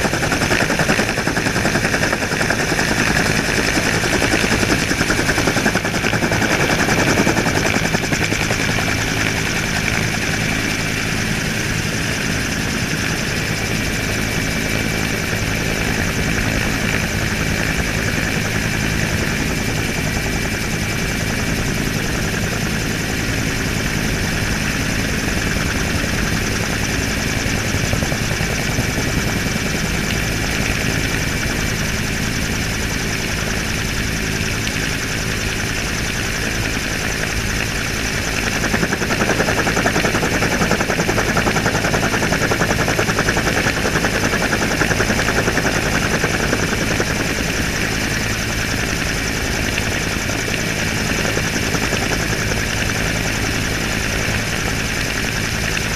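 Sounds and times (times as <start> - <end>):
helicopter rotor beat and engine: 0.0 - 55.9.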